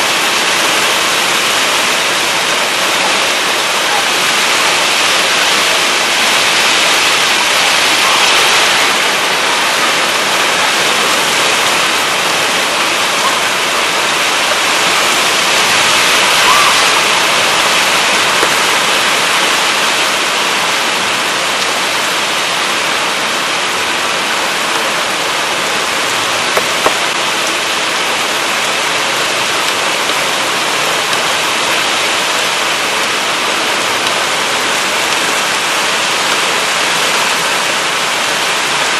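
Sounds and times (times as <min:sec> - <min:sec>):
gusty wind: 0:00.0 - 0:38.9
heavy rain pouring: 0:00.0 - 0:38.9.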